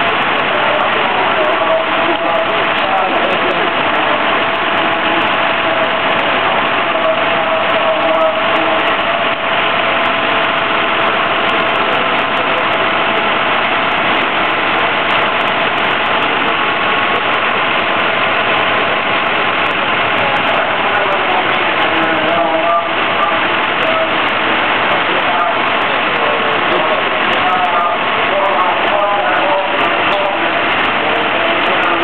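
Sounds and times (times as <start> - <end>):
fire truck engines droning: 0.0 - 32.0.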